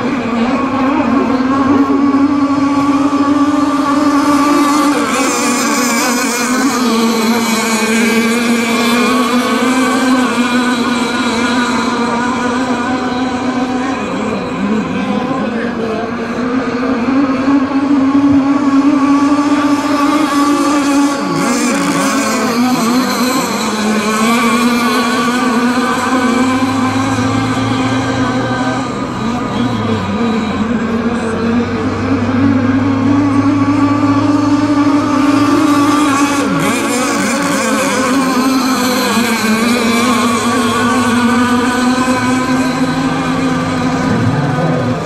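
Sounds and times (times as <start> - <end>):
rc boat motors buzzing: 0.0 - 45.0.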